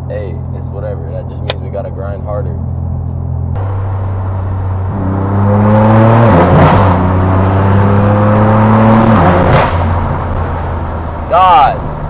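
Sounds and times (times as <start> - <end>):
car engine accelerating hard: 0.6 - 12.0.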